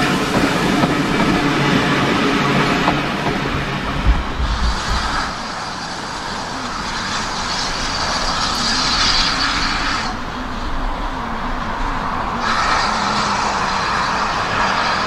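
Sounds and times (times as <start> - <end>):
rushing steam hiss: 0.0 - 15.0
train coaches rumbling on track: 0.0 - 15.0.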